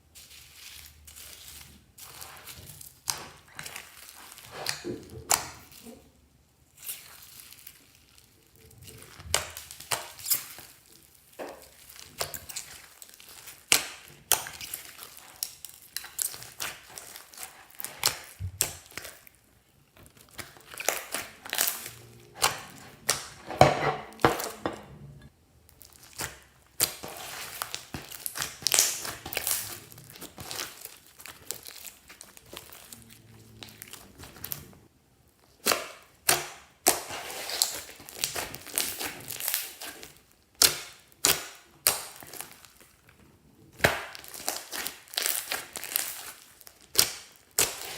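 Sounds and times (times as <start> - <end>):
slime crackling and popping: 0.2 - 24.6, 25.6 - 47.9.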